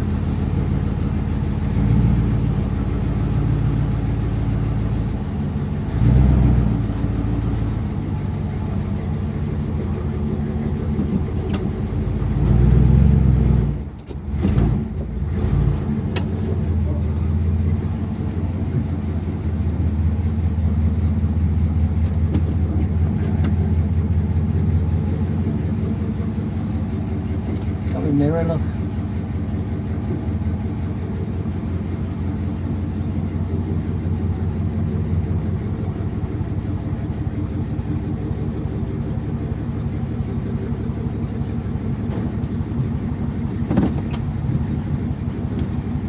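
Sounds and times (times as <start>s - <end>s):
car engine droning: 0.0s - 46.0s.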